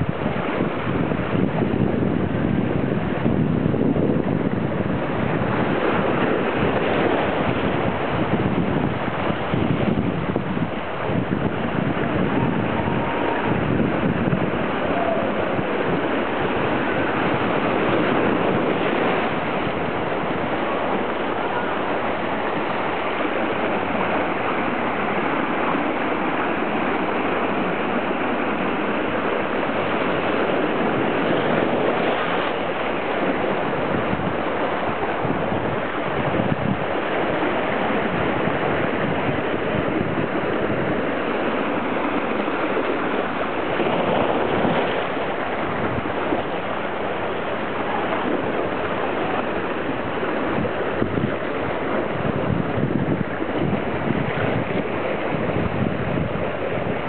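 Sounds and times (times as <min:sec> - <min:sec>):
small waves washing at shore: 0:00.0 - 0:57.0.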